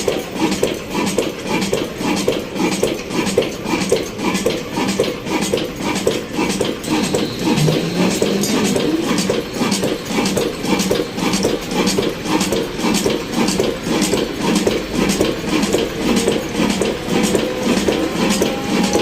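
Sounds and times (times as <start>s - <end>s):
engine running with pulsing beat: 0.0s - 19.0s
mechanical clatter: 0.0s - 19.0s.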